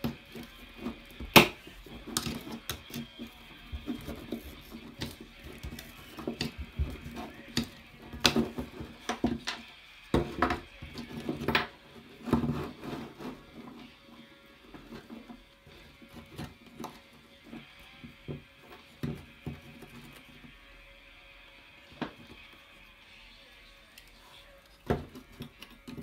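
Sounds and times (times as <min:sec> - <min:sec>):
hand tool working: 0:00.0 - 0:20.6, 0:23.8 - 0:26.0.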